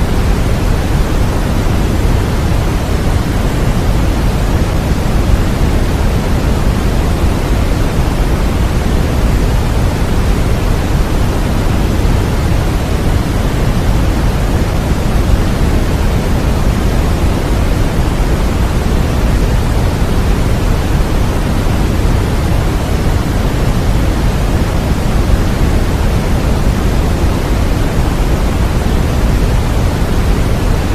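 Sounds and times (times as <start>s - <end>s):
steady pink noise hiss: 0.0s - 30.9s.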